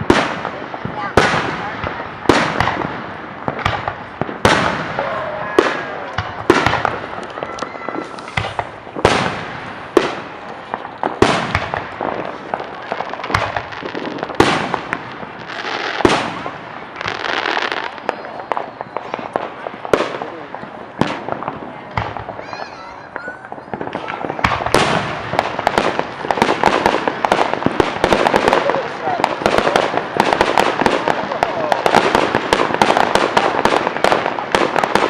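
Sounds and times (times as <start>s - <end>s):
fireworks bangs echoing: 0.0s - 35.0s
fireworks crackling: 0.0s - 35.0s.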